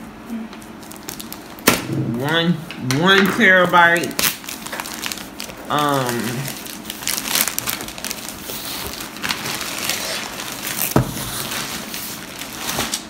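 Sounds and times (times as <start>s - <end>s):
packaging crinkling and rustling: 0.5s - 1.7s, 2.3s - 13.0s.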